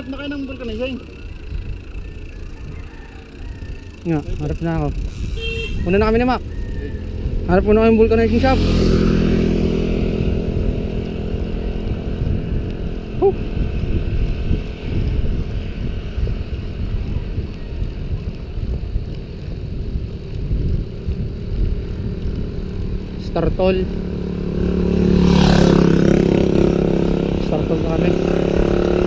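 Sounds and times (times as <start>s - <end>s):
motorcycle engine: 0.0s - 29.0s
wind buffeting microphone: 0.0s - 29.0s.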